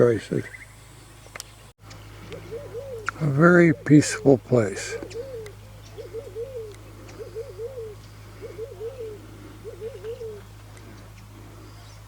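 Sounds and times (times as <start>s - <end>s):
dove cooing: 2.0s - 12.0s.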